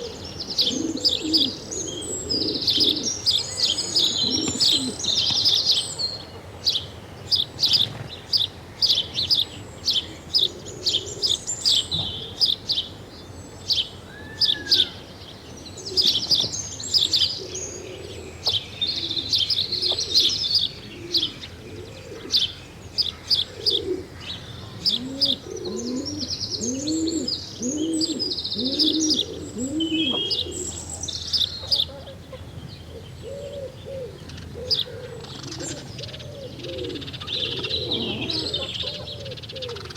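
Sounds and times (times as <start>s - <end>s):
low cooing calls: 0.0s - 39.9s
small birds chirping: 0.0s - 39.9s.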